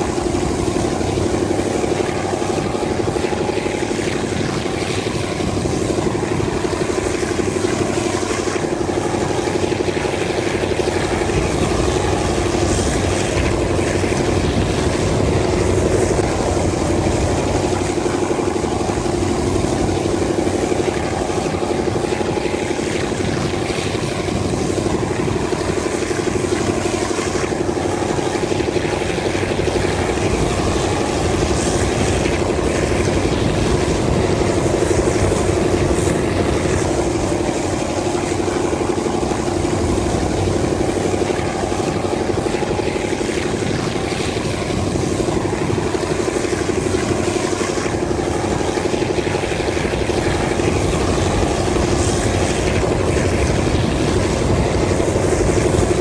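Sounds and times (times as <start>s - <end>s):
diesel locomotive engine droning: 0.0s - 56.0s.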